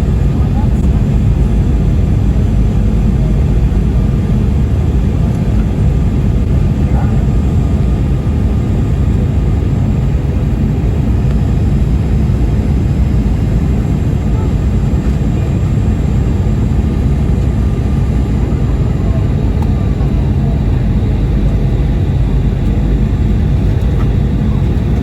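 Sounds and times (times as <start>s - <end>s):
aircraft cabin engine rumble: 0.0s - 25.0s.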